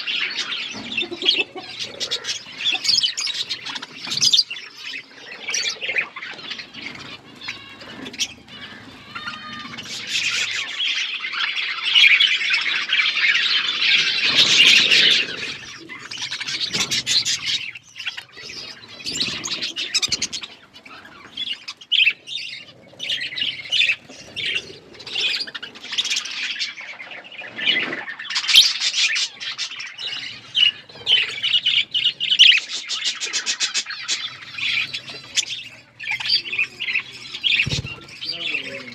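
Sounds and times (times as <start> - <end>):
budgerigars chirping and chattering: 0.0 - 38.9
budgerigar squawks: 0.5 - 10.9, 13.9 - 26.7, 28.4 - 38.9.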